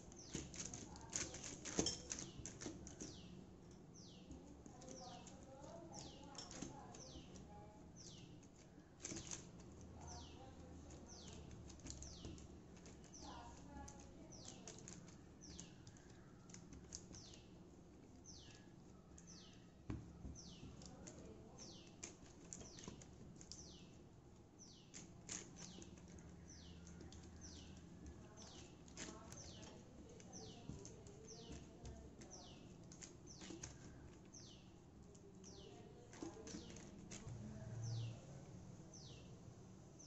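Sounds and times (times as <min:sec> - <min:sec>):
hands pressing dough: 0:00.0 - 0:24.0, 0:24.6 - 0:37.8
small bird chirping: 0:00.0 - 0:24.0, 0:24.6 - 0:38.3, 0:38.9 - 0:39.4
soft rustling: 0:00.0 - 0:39.2.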